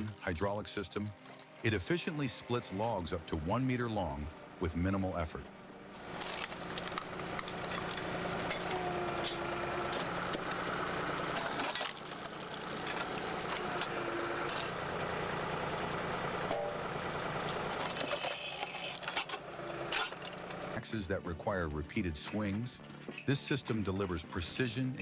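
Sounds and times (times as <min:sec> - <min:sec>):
log splitter engine and pump drone: 0:00.0 - 0:25.0.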